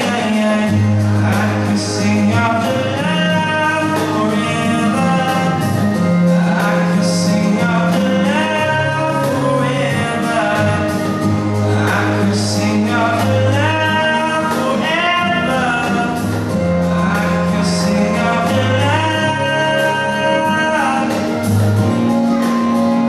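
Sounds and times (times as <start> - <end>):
man singing into microphone: 0.0 - 23.0
musical accompaniment with bass: 0.0 - 23.0.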